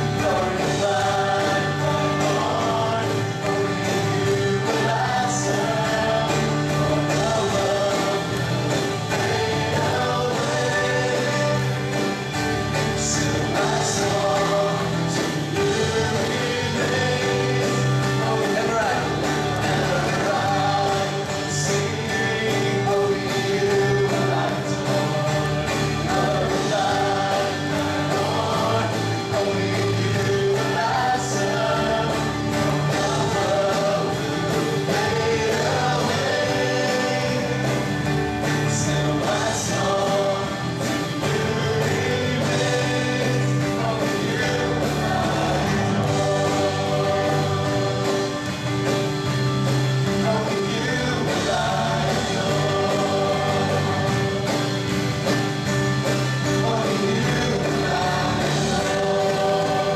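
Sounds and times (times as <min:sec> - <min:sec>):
acoustic guitar and band: 0:00.0 - 0:59.9
group singing praise song: 0:00.0 - 0:59.9.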